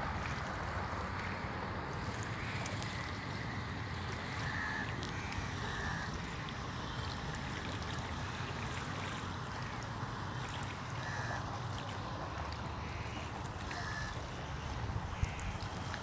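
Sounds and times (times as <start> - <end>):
rippling water: 0.0 - 16.0
wind: 0.0 - 16.0.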